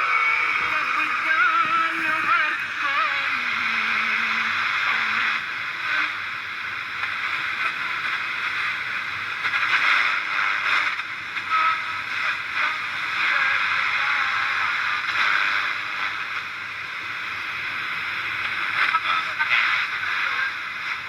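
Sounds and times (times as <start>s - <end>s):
snatches of radio signal: 0.0s - 16.6s, 18.0s - 21.0s
radio static hiss: 0.0s - 21.0s.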